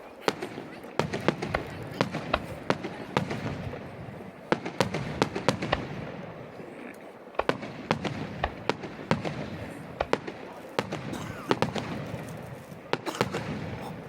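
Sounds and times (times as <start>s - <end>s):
fireworks bangs and cracks: 0.0s - 6.6s, 7.3s - 14.0s.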